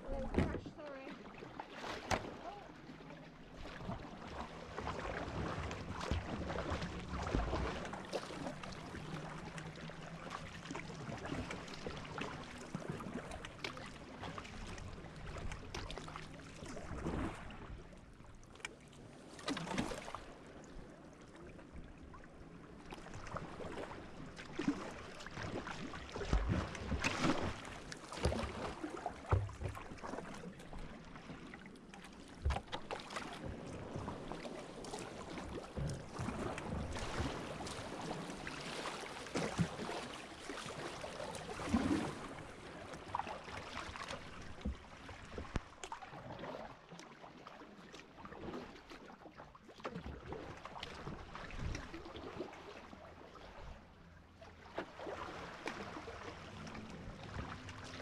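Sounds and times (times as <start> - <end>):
paddle strokes splashing: 0.0 - 58.0
water sloshing against hull: 0.0 - 58.0.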